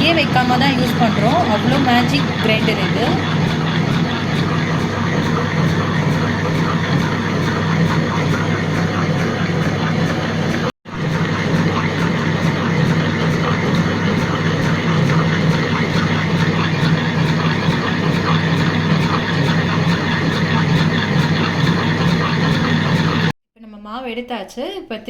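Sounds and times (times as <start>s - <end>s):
wet grinder motor humming: 0.0s - 23.4s.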